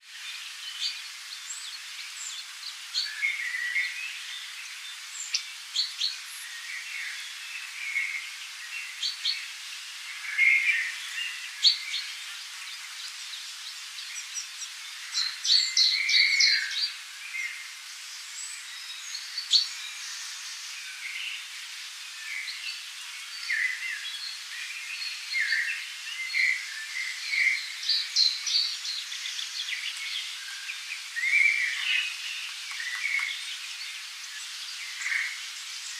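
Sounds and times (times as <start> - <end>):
steady hiss: 0.0 - 35.9
birds chirping and trilling: 0.1 - 35.9.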